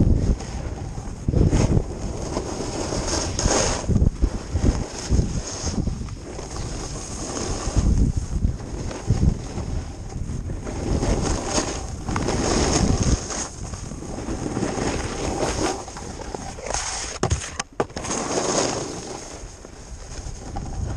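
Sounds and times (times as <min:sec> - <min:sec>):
wind buffeting microphone: 0:00.0 - 0:17.6, 0:19.0 - 0:20.9
skis scraping across snow: 0:00.1 - 0:20.9.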